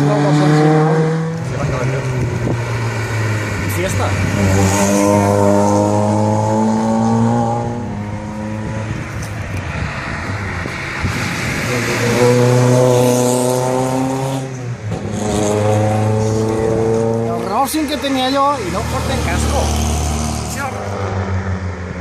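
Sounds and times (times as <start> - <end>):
rally car engines at high revs: 0.0 - 22.0.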